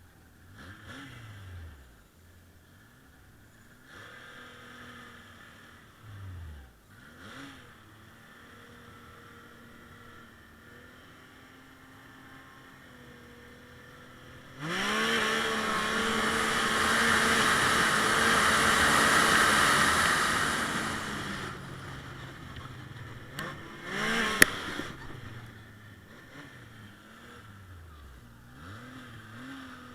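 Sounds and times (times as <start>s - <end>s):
snowmobile engine idling and revving: 0.0s - 29.9s.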